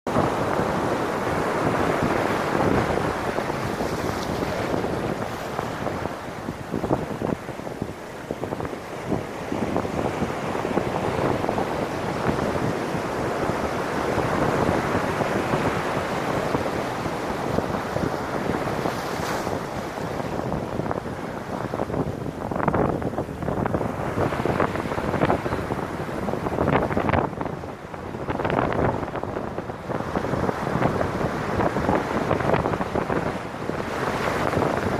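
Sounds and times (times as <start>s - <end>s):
ocean surf over rocks: 0.1s - 34.9s
wind buffeting microphone: 0.1s - 34.9s.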